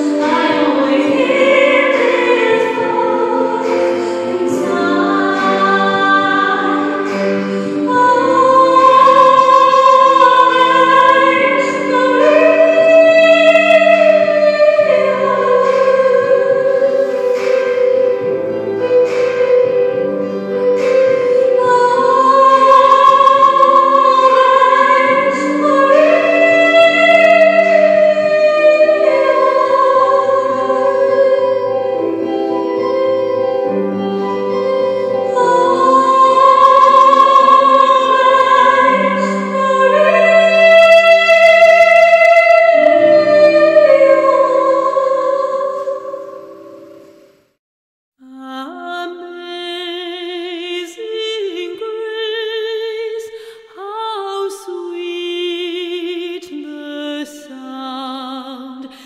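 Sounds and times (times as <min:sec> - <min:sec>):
slow music with singing: 0:00.0 - 0:47.6, 0:48.2 - 0:59.0.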